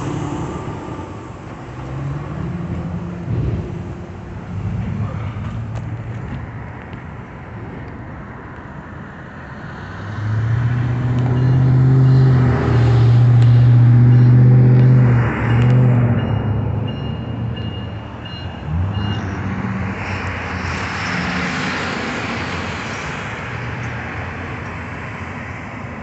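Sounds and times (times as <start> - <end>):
freight cars rumbling: 0.0 - 26.0
vehicle engine low hum: 0.0 - 26.0.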